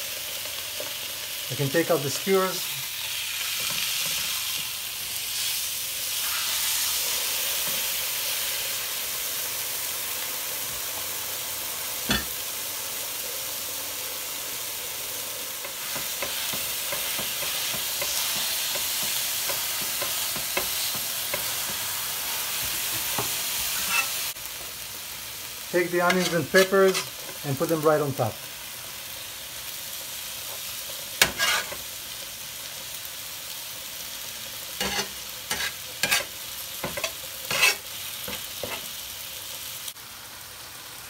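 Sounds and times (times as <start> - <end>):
sausage sizzling on a griddle: 0.0 - 41.0.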